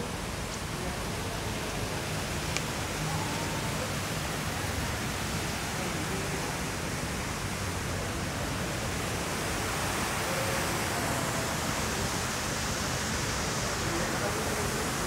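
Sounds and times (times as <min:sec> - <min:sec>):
outdoor ambience rushing noise: 0:00.0 - 0:15.0.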